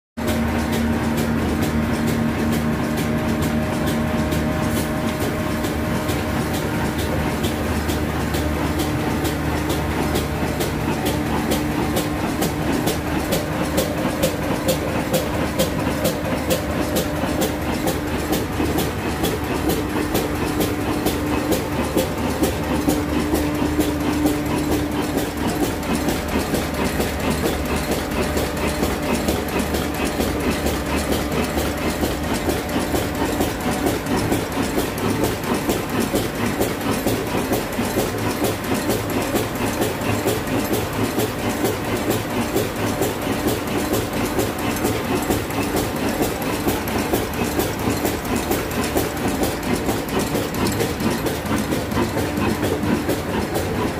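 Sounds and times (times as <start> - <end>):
diesel engine running: 0.2 - 53.9.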